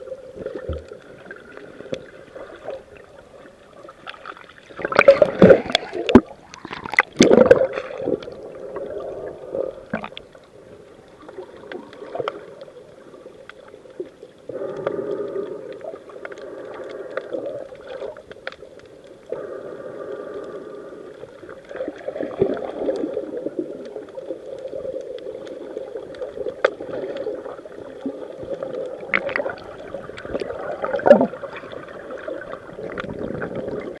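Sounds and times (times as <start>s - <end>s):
underwater water gurgling: 0.0s - 34.0s.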